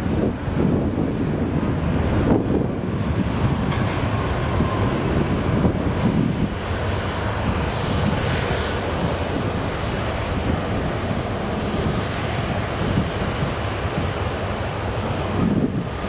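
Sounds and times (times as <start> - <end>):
faint jet engine whine: 0.0 - 16.0
jet engines rumbling: 0.0 - 16.0.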